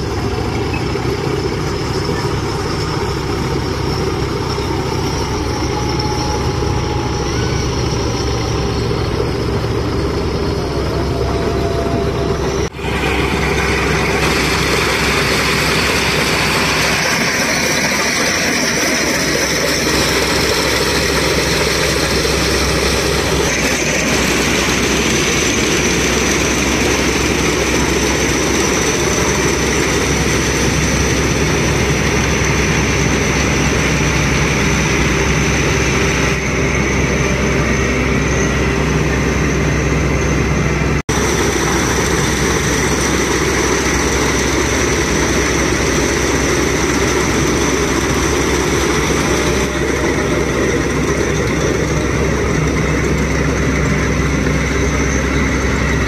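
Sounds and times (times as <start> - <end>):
combine harvester droning: 0.0 - 56.0
high machinery whine: 0.0 - 56.0.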